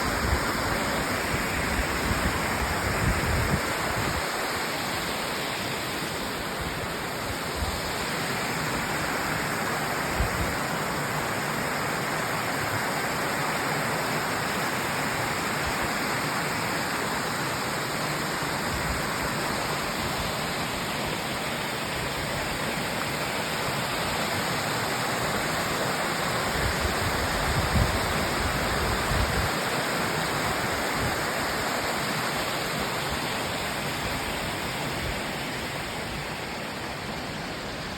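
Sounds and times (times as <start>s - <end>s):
rushing water: 0.0s - 37.9s.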